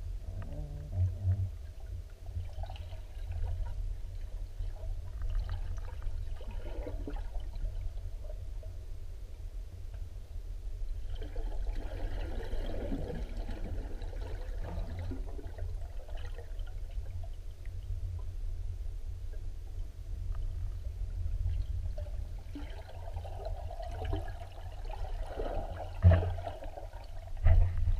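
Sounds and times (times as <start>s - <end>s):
underwater river rumble: 0.0s - 27.9s.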